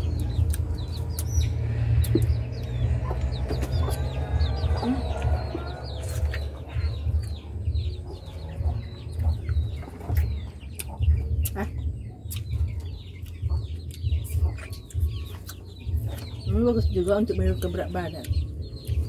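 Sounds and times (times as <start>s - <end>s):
chickens clucking: 0.0s - 19.0s
low rumble: 0.0s - 19.0s.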